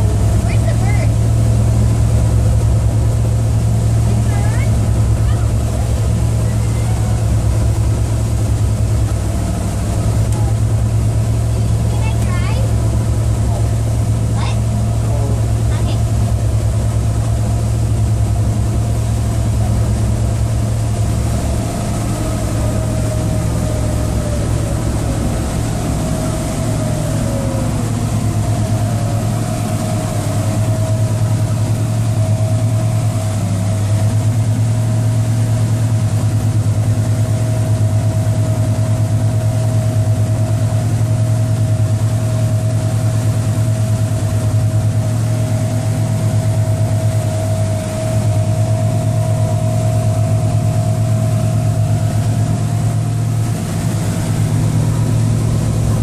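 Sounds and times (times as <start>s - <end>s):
boat engine running: 0.0s - 56.0s
water churning in wake: 0.0s - 56.0s.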